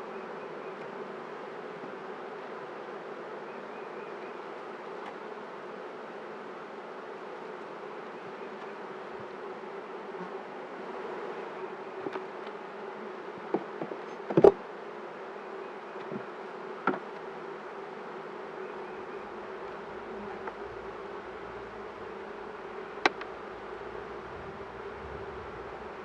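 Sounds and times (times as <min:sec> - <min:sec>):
honeybees buzzing: 0:00.2 - 0:14.0, 0:14.8 - 0:26.0.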